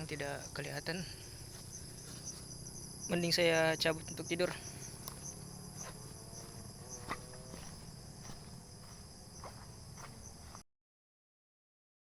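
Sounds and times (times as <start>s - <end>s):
crickets trilling: 0.0s - 10.6s.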